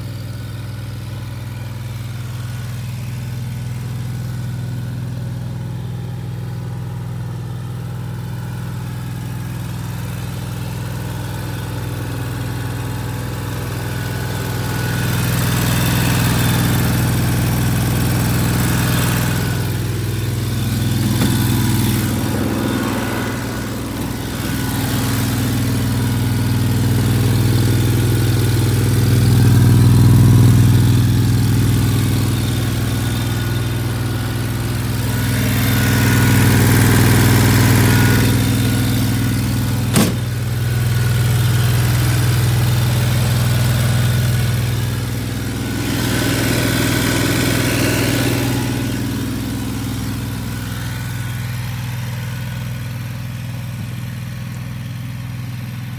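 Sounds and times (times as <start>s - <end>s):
mower engine running: 0.0s - 55.9s.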